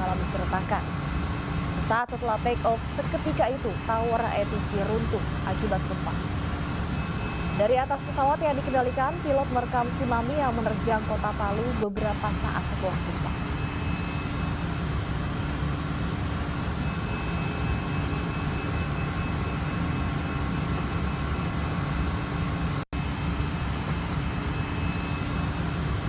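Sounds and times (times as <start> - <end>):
aircraft engine hum: 0.0 - 26.0.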